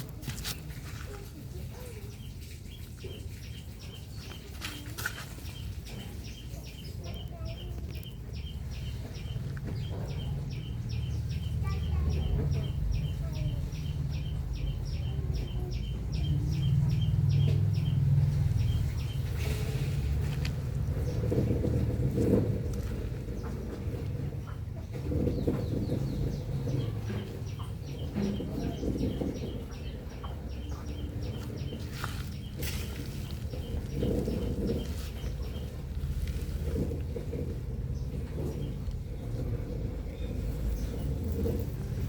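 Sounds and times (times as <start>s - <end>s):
low rumble: 8.3s - 42.0s.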